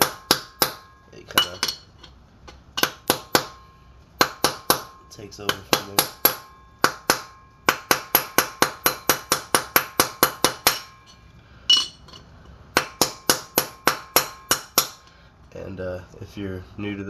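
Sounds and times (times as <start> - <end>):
hammer tapping on metal: 0.0 - 12.2, 12.8 - 15.1
loud metallic clink: 0.0 - 15.1.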